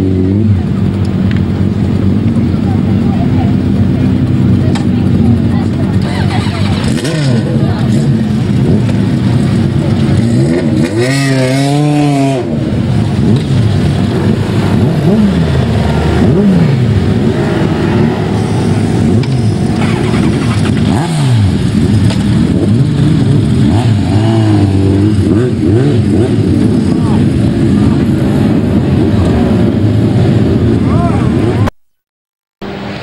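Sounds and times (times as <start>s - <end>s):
racing motorcycles passing: 0.0s - 31.7s.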